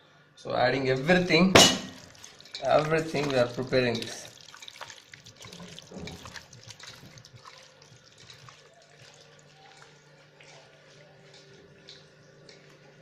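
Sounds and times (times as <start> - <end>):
wet squishing of mixing: 1.1 - 13.0.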